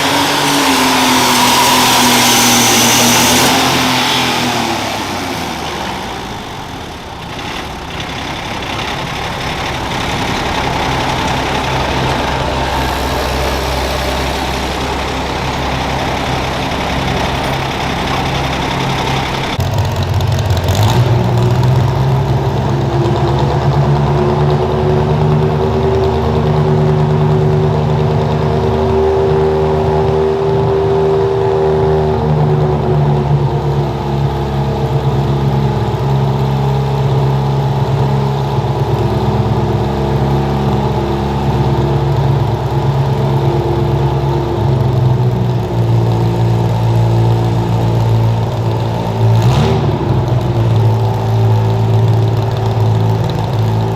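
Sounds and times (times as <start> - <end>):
garden tractor engine running hard: 0.0 - 53.9.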